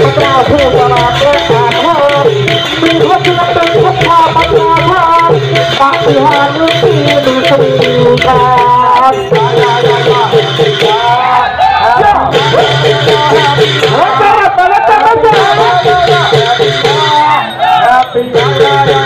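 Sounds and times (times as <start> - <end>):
long drums fast beat: 0.0 - 19.0.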